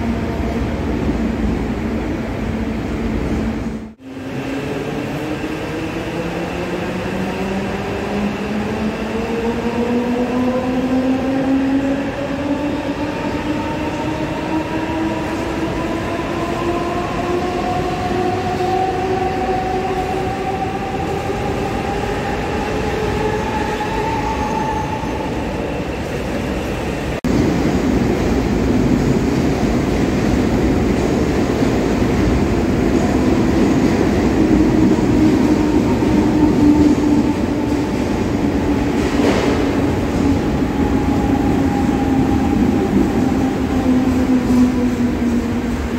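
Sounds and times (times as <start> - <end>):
train running along platform: 0.0 - 45.9.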